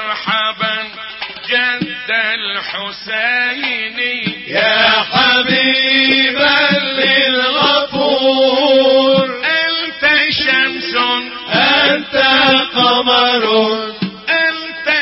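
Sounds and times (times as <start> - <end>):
man singing melismatic chant: 0.0 - 15.0.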